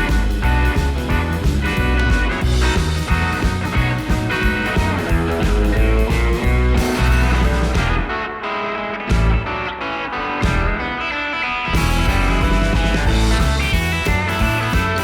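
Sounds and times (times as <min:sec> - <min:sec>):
guitar rock blues music: 0:00.0 - 0:15.0.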